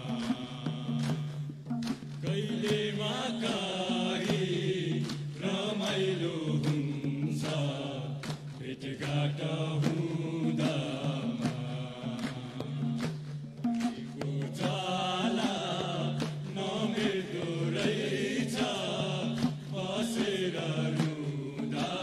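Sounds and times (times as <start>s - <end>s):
hand claps: 0.0s - 22.0s
men chanting together: 0.0s - 22.0s.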